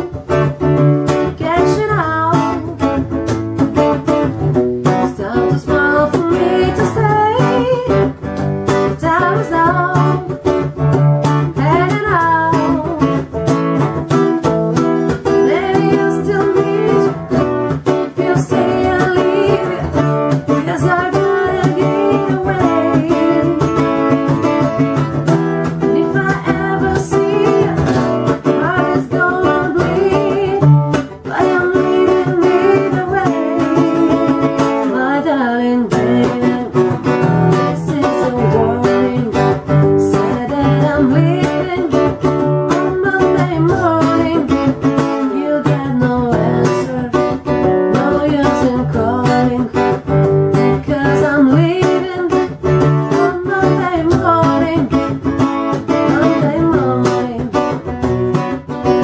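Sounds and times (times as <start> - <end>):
acoustic guitar strumming chords: 0.0 - 59.0
woman singing: 0.0 - 59.0.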